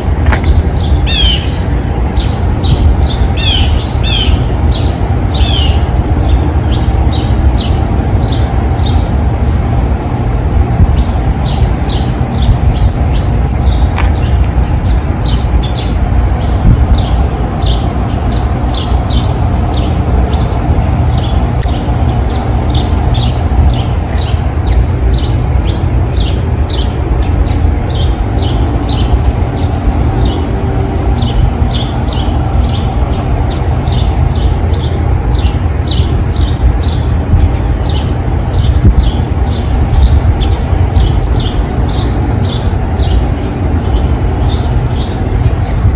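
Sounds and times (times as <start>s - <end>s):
small songbirds chirping: 0.0s - 45.9s
steady low rumble: 0.0s - 45.9s.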